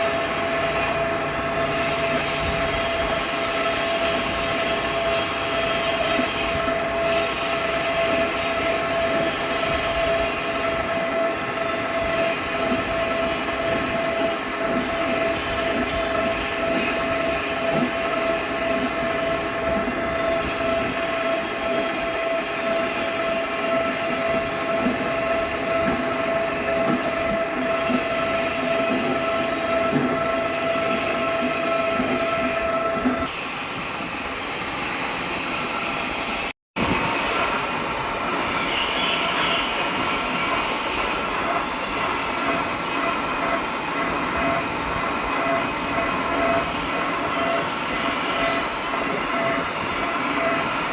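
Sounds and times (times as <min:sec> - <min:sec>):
machine tool whining: 0:00.0 - 0:33.4, 0:36.9 - 0:50.9.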